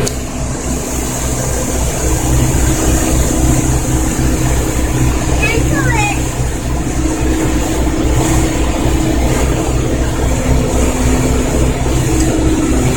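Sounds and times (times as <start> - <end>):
motorboat engine droning: 0.0 - 12.9
water rushing: 0.0 - 12.9.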